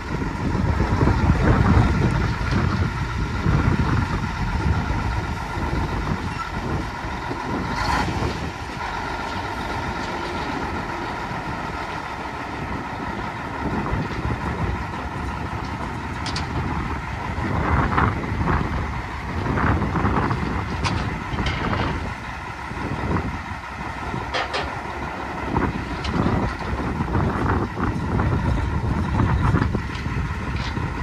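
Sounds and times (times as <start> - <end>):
diesel truck engine idling: 0.0 - 31.0
wind buffeting microphone: 0.0 - 31.0.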